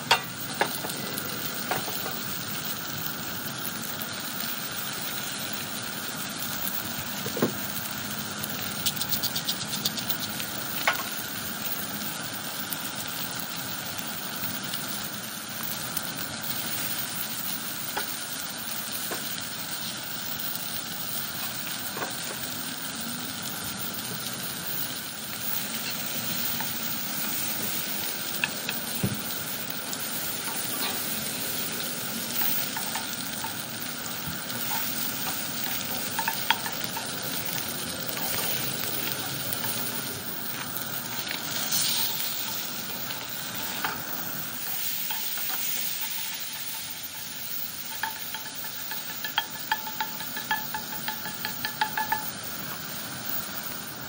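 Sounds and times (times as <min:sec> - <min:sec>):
fish and vegetables sizzling: 0:00.0 - 0:54.0.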